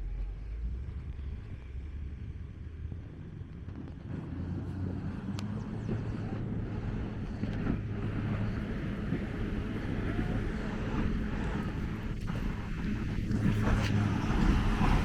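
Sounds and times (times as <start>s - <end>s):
street traffic noise: 0.0s - 15.0s
vehicle engine running: 0.0s - 15.0s.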